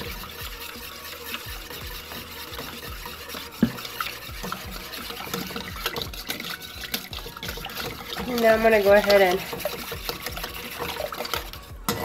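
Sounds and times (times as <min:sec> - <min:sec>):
whisk knocking bowl: 0:00.0 - 0:12.0
whisk stirring thick dressing: 0:00.0 - 0:12.0.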